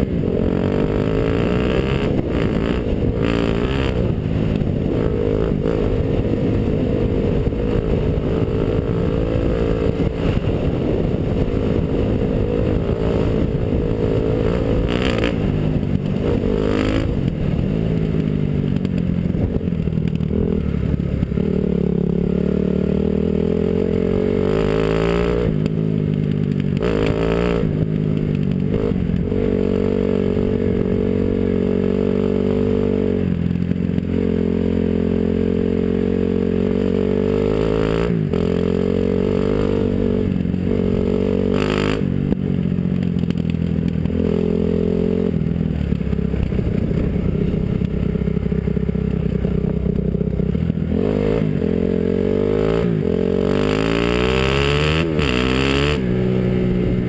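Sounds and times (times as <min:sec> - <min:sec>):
dirt bike engine revving: 0:00.0 - 0:19.6, 0:20.2 - 0:25.6, 0:26.8 - 0:33.3, 0:33.9 - 0:42.4, 0:44.0 - 0:57.0.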